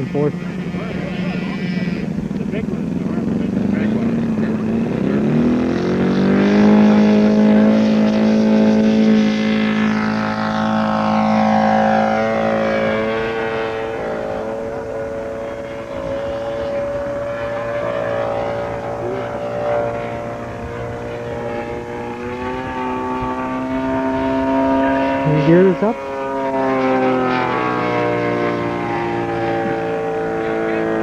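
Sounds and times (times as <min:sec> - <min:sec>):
model airplane engine: 0:00.0 - 0:31.0.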